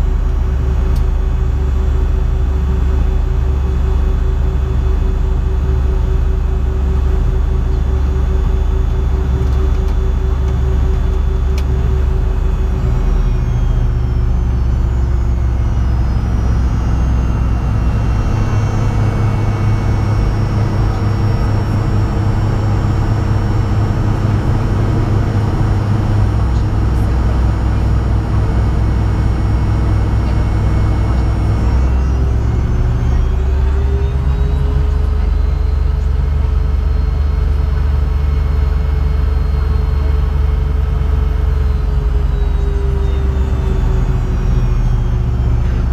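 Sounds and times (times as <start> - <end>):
jet engines taxiing from cabin: 0.0 - 45.9.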